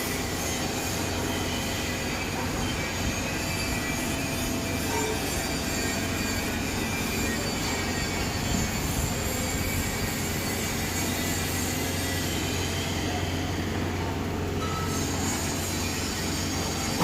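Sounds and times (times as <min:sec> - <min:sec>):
high machine whines: 0:00.0 - 0:17.0.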